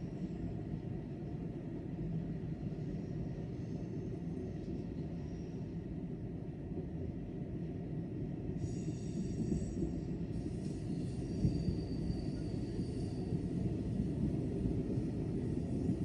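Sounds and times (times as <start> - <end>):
low rumble of station ambience: 0.0 - 16.0.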